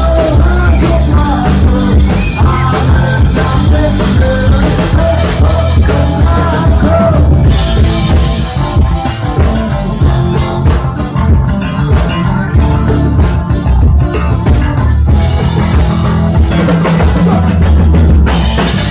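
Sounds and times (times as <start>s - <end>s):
loud live punk rock band: 0.0s - 18.9s.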